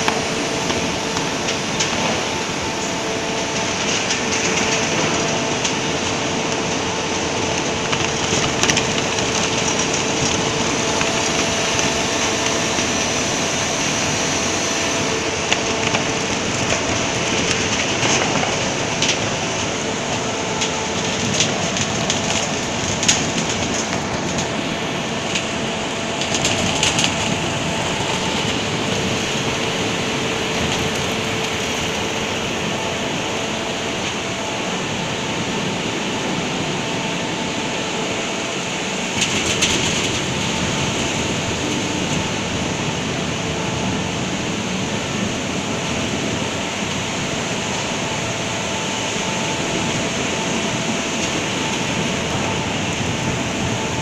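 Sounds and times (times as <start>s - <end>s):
conveyor mechanical rattle: 0.0s - 54.0s
faint machine hum: 0.0s - 54.0s.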